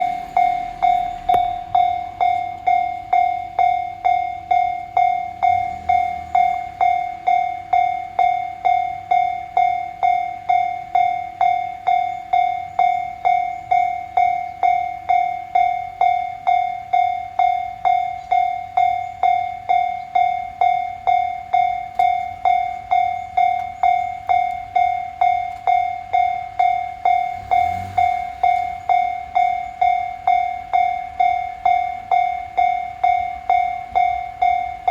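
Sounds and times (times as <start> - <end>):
level crossing warning bell ringing: 0.0 - 34.9.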